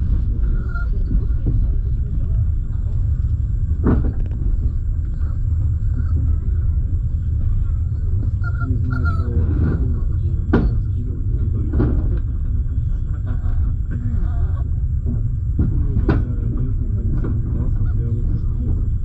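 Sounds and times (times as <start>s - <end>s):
train rumbling over tracks: 0.0s - 19.0s.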